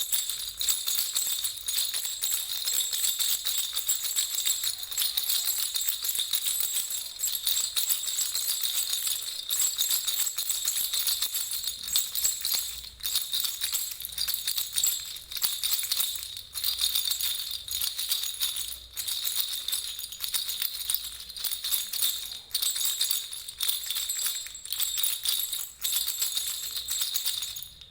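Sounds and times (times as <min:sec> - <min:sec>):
baby rattle jingling: 0:00.0 - 0:27.9.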